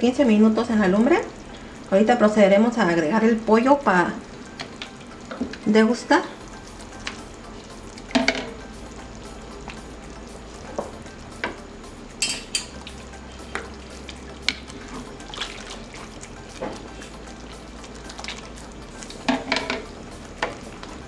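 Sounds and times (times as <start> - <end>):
sauce bubbling in a pot: 0.1 - 21.0.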